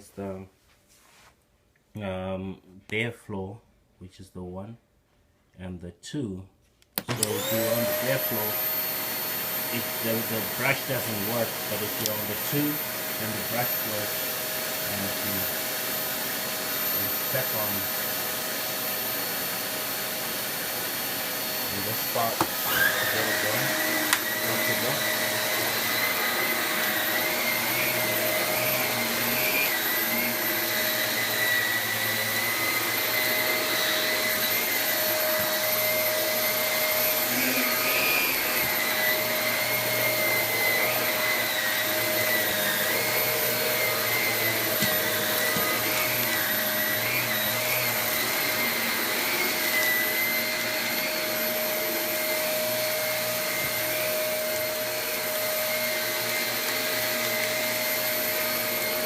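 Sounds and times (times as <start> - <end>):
upright vacuum cleaner running: 7.0 - 59.0.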